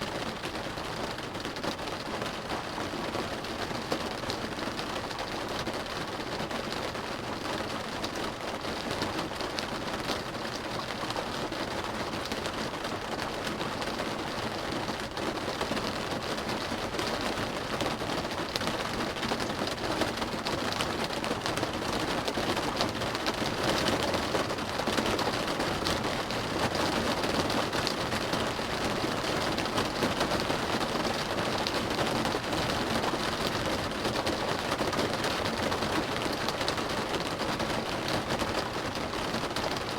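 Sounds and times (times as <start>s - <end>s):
rain drumming on car roof: 0.1s - 39.9s.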